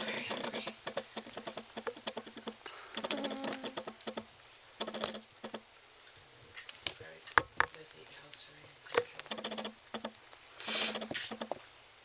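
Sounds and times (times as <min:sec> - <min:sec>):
rustle: 0:00.0 - 0:12.0.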